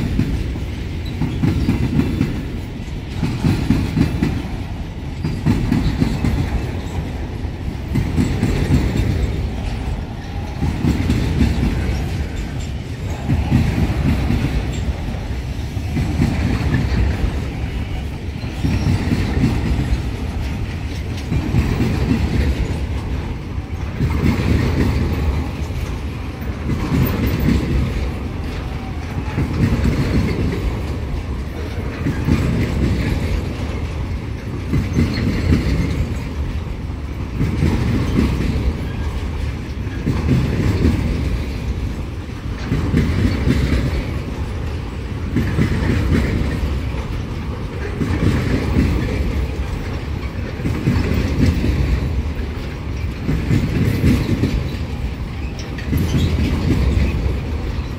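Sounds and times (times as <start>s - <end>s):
freight train wheels on rails: 0.0s - 57.9s.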